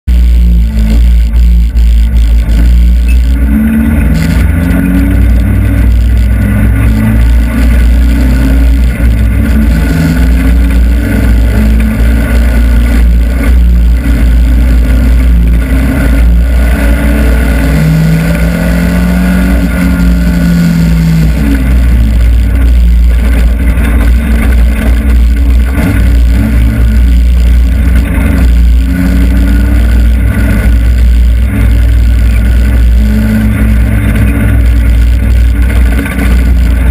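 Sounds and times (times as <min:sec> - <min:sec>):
race car engine running hard: 0:00.0 - 0:36.9.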